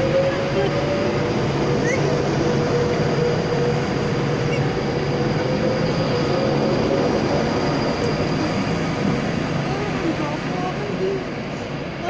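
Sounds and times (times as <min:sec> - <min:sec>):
electric train hum: 0:00.0 - 0:12.0
train rumble: 0:00.0 - 0:12.0.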